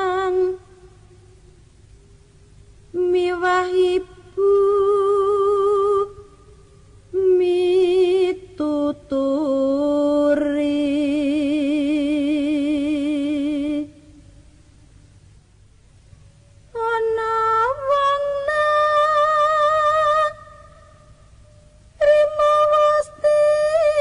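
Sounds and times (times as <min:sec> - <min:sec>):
woman singing unaccompanied: 0:00.0 - 0:01.4, 0:02.8 - 0:14.5, 0:16.6 - 0:24.0.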